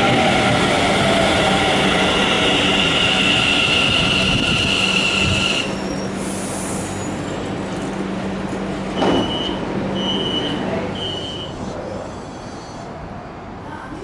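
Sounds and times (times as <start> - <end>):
electric train humming: 0.0 - 12.4.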